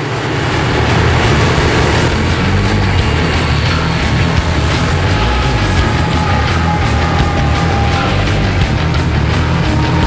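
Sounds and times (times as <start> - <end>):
diesel locomotive engines rumbling: 0.0 - 10.0.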